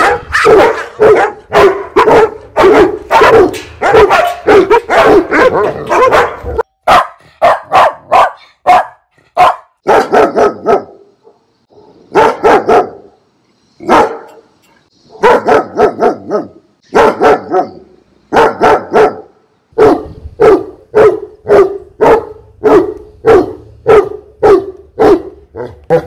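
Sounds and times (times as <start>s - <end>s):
dog barking loudly: 0.0s - 11.0s, 11.7s - 13.1s, 13.8s - 14.4s, 15.1s - 26.0s.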